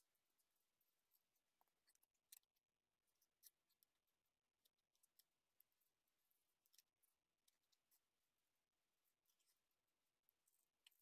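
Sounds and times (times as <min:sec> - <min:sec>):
small clicks and scrapes: 0:00.0 - 0:11.0.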